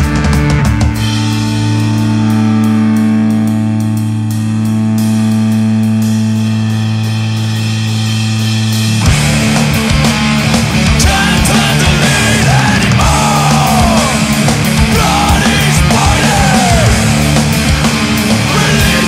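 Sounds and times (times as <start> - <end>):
distorted guitar and bass chord: 0.0 - 19.0
rock band playing: 0.0 - 19.0.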